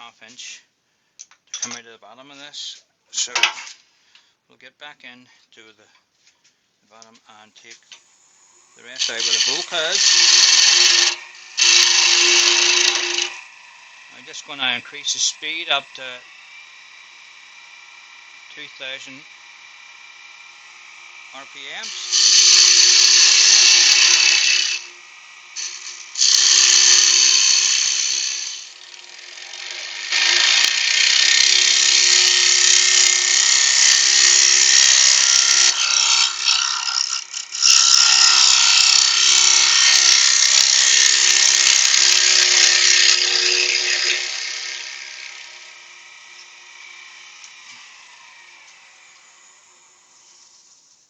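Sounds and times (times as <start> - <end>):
wood lathe humming: 8.1 - 50.8
turning tool scraping wood: 8.5 - 51.0.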